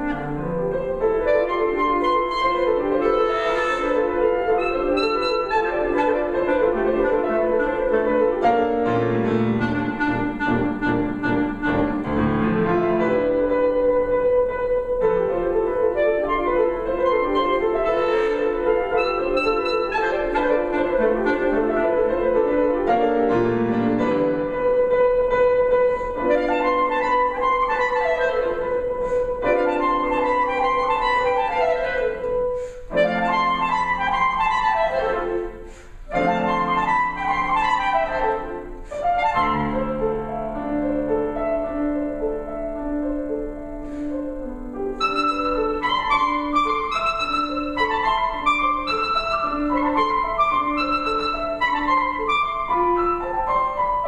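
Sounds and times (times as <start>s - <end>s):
clarinet: 0.0s - 54.0s
piano: 0.0s - 54.0s.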